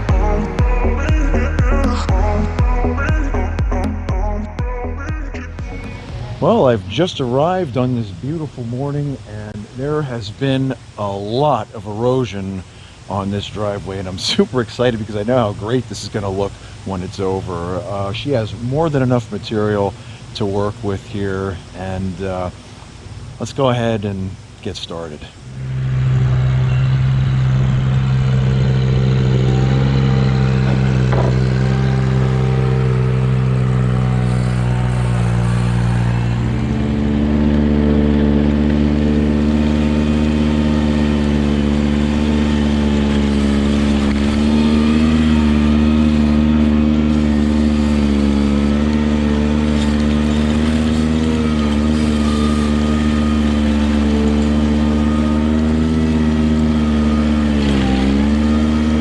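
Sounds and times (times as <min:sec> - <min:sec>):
tractor diesel engine running: 0:00.0 - 0:21.7, 0:25.3 - 0:59.0.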